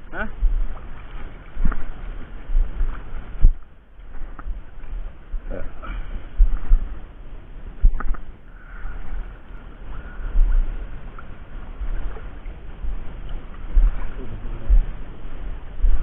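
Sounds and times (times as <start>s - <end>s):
sea water sloshing and lapping: 0.0s - 16.0s.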